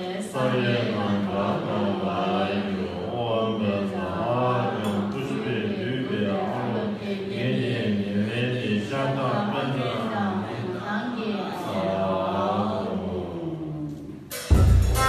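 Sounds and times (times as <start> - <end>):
low-pitched chanting: 0.0 - 14.3.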